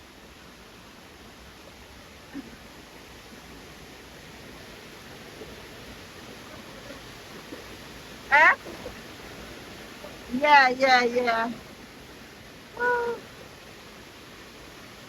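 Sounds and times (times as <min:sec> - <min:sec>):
waterfall rushing: 0:01.1 - 0:15.0.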